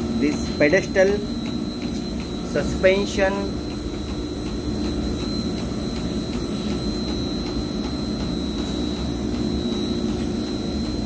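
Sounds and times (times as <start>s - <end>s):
machinery humming and whirring: 0.0s - 11.0s.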